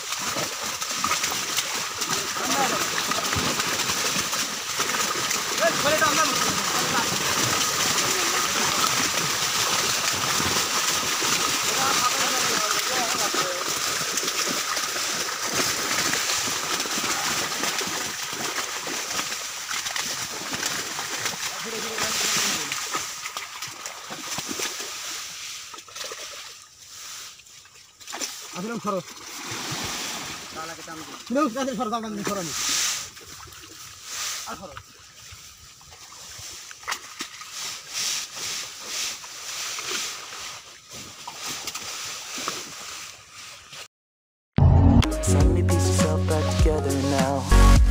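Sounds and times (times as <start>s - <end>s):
fish splashing in shallow water: 0.0s - 43.8s.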